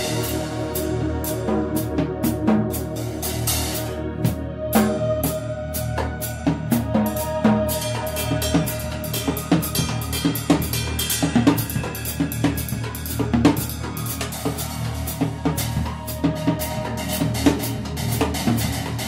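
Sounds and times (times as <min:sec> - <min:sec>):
drum kit busy pattern: 0:00.0 - 0:19.0
low bass line: 0:00.0 - 0:19.0.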